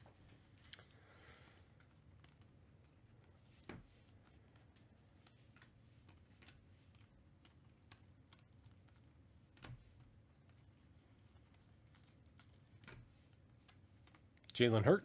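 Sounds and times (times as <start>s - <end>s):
cards flipping and sliding: 1.7s - 14.4s.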